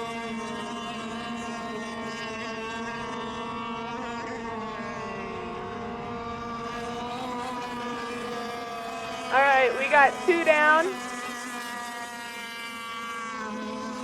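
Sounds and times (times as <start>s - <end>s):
model boat motors whining: 0.0s - 14.0s.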